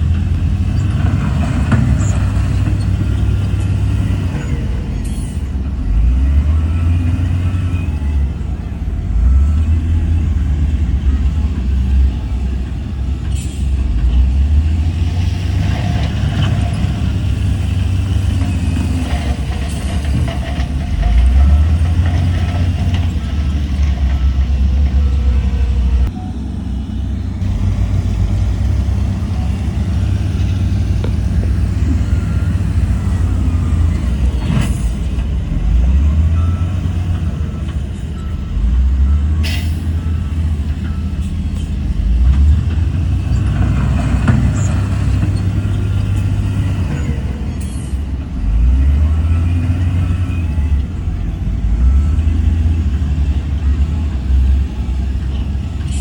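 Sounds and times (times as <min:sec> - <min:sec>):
heavy machinery engine rumble: 0:00.0 - 0:56.0.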